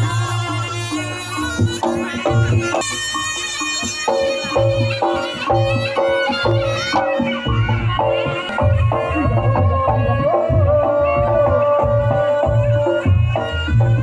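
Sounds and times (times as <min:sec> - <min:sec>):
reedy shawm melody: 0:00.0 - 0:14.0.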